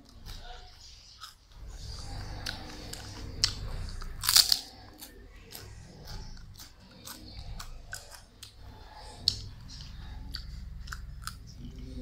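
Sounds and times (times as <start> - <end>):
crunchy crackles: 0.0 - 12.0
low hum: 0.0 - 12.0
wet chewing: 0.0 - 12.0.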